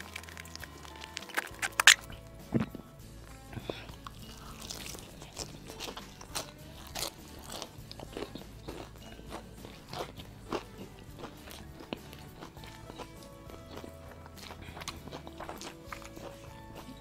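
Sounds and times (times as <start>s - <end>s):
crunching fried chicken: 0.0s - 2.8s, 3.6s - 17.0s.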